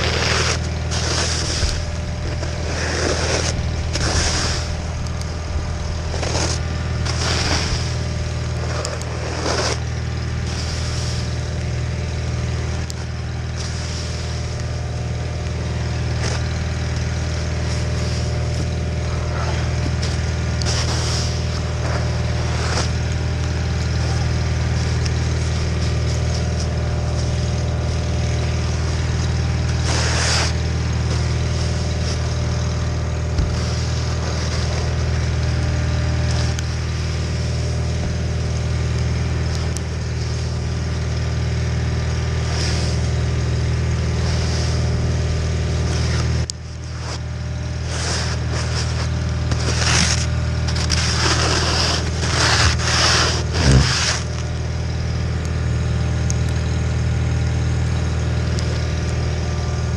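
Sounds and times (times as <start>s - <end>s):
garden tractor engine running: 0.0s - 59.9s
snowblower rushes of noise: 0.0s - 59.9s.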